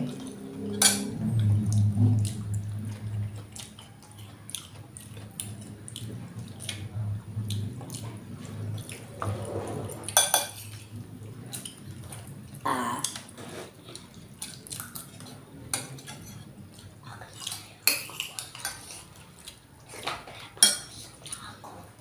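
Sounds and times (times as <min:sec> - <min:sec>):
wet chewing and slurping: 0:00.0 - 0:12.6, 0:13.2 - 0:22.0
low steady hum: 0:00.0 - 0:22.0.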